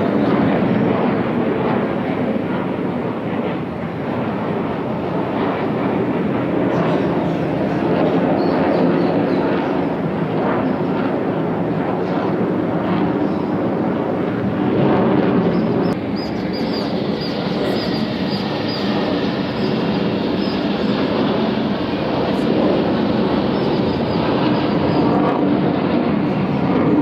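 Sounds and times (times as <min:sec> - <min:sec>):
jet aircraft engines roaring: 0:00.0 - 0:27.0.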